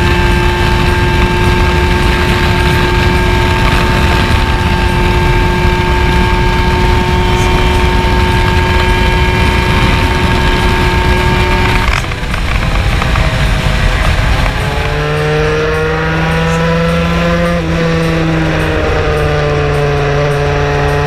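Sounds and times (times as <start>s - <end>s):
scooter engine at high pitch: 0.0s - 21.0s.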